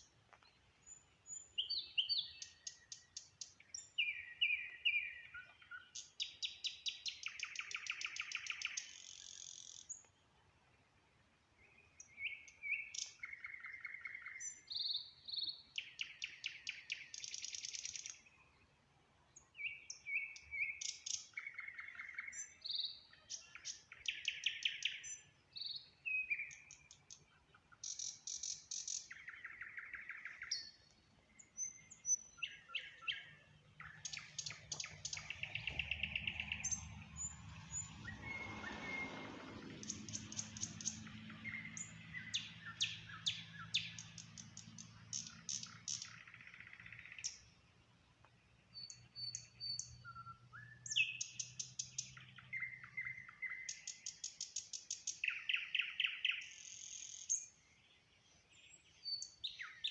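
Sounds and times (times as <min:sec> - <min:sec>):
nightingale singing: 0:00.0 - 0:10.2, 0:11.6 - 0:59.9.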